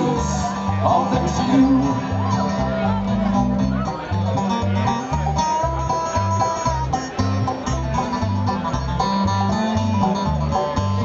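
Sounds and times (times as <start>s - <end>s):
banjo picking: 0.0s - 11.0s
bass line: 0.0s - 11.0s
guitar picking: 0.0s - 11.0s.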